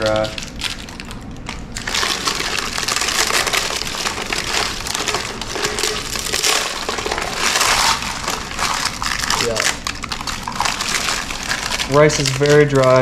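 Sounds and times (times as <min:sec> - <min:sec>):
dry rice crunching in paper: 0:00.0 - 0:13.0.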